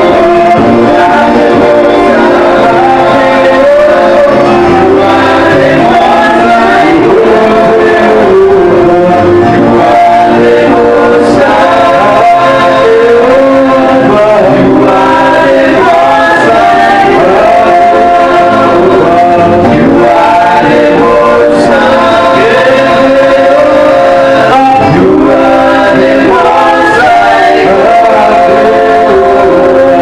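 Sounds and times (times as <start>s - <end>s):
instrumental accompaniment: 0.0s - 30.0s
man singing gospel: 0.0s - 30.0s
voices singing along: 0.0s - 30.0s.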